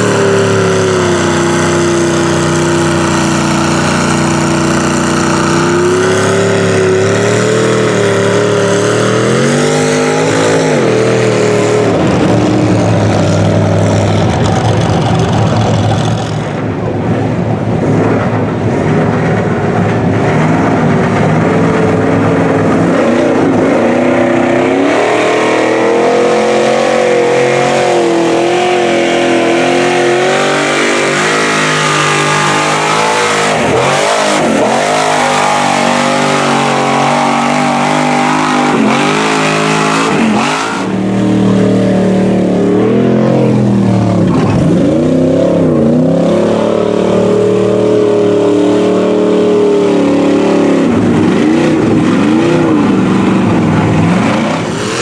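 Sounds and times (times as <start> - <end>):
truck engines revving: 0.0 - 55.0
trucks ploughing through water: 0.0 - 55.0.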